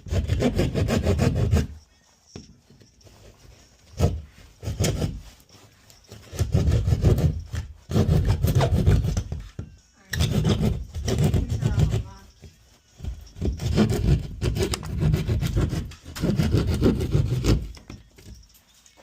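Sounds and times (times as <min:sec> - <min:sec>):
rasping scraping and rubbing: 0:00.0 - 0:19.0.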